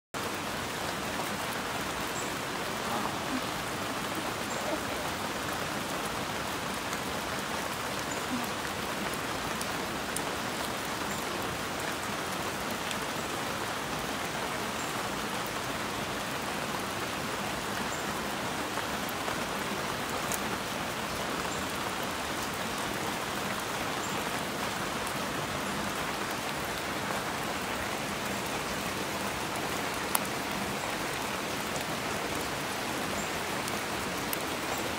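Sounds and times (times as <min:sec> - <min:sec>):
water rushing in rocky stream: 0:00.2 - 0:34.9.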